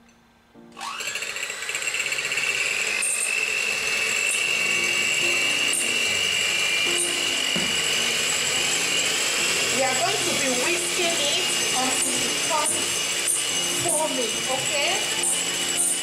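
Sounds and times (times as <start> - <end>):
electric hand mixer whining: 0.7 - 16.0.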